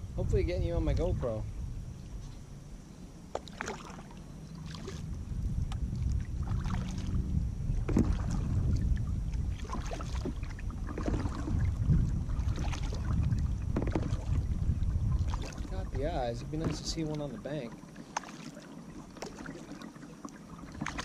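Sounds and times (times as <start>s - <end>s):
wind rumble on microphone: 0.0s - 17.8s, 18.8s - 21.0s
paddle splashing in water: 3.3s - 21.0s.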